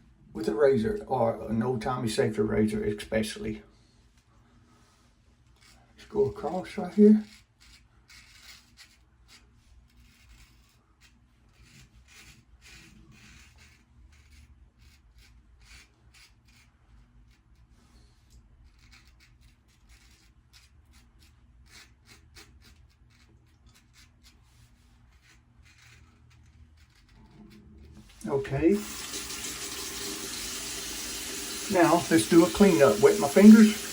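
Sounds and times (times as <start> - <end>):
razor scraping stubble: 5.5 - 17.7, 18.5 - 33.9.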